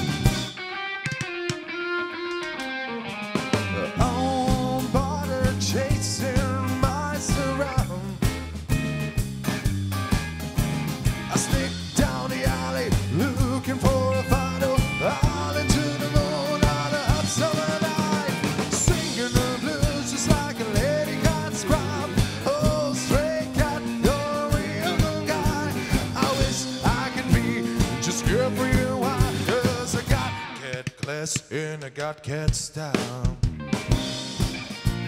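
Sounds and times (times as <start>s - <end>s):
bass line: 0.0s - 0.6s, 3.4s - 30.6s, 33.2s - 35.0s
drum kit steady beat: 0.0s - 1.6s, 3.1s - 35.0s
lead guitar melody with bent notes: 0.0s - 30.6s, 33.5s - 35.0s.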